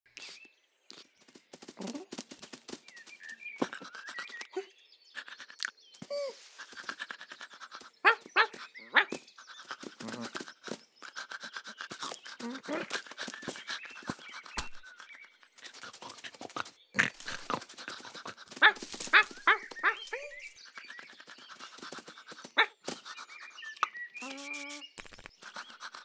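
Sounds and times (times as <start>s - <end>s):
cartoon licking and panting: 3.6s - 26.0s.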